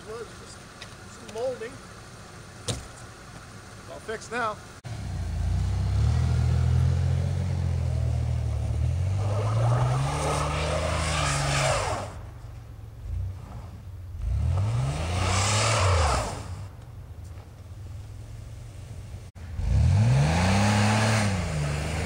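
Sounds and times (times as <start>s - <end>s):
car engine revving: 0.1s - 22.0s.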